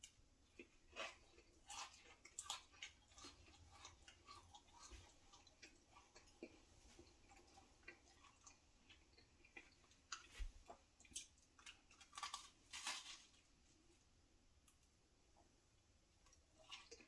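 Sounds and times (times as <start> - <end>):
chewing with soft crunches: 0.0 - 15.5, 16.2 - 17.0.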